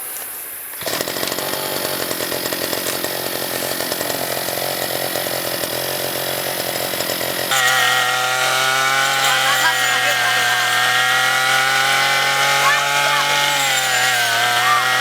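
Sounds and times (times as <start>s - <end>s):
small petrol engine running: 0.8s - 15.0s.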